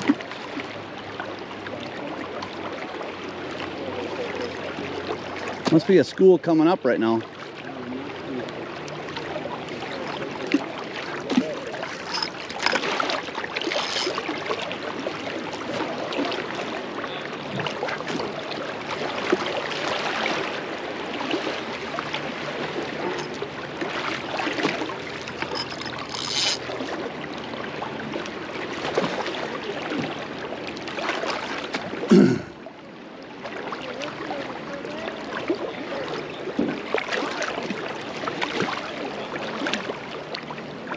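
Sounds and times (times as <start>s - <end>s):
river current rushing and splashing: 0.0s - 40.9s.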